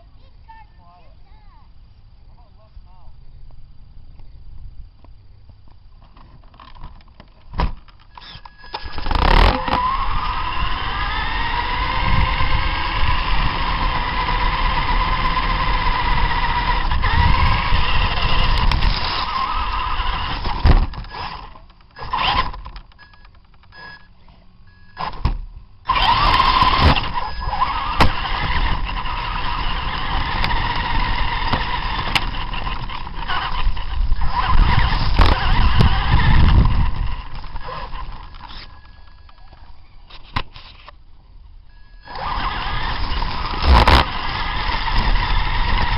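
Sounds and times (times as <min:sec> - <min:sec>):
toy truck motors whining: 0:08.0 - 0:40.9, 0:41.7 - 0:45.9.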